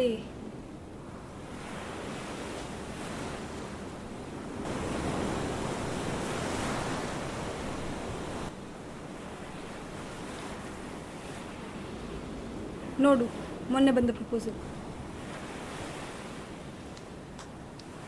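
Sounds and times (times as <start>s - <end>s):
waves washing onto beach: 1.2s - 18.0s.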